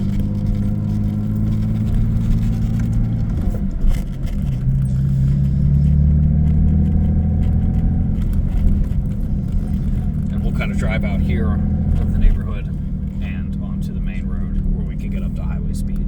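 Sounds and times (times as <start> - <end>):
car engine pulling away: 0.0 - 16.0.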